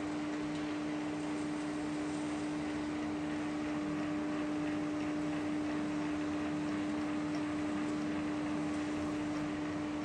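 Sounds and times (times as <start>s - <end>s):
lathe running: 0.0s - 10.0s.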